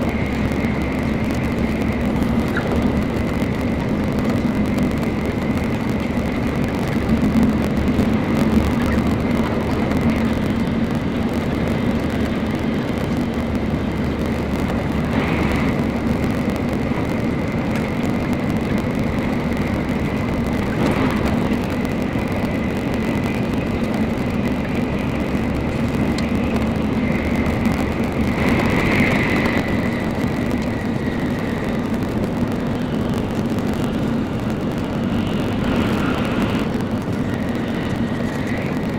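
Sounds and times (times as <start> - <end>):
high whine: 0.0 - 38.9
train running rumble: 0.0 - 38.9.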